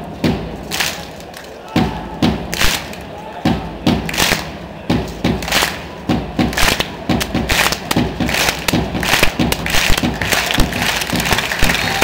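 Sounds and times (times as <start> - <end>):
crowd voices: 0.0 - 12.0
crowd clapping in rhythm: 0.2 - 3.1, 3.9 - 12.0.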